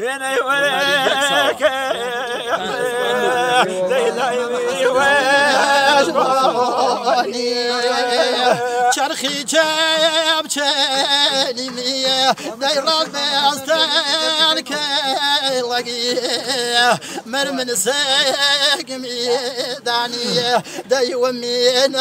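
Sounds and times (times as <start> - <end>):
men singing unaccompanied folk song: 0.0 - 22.0.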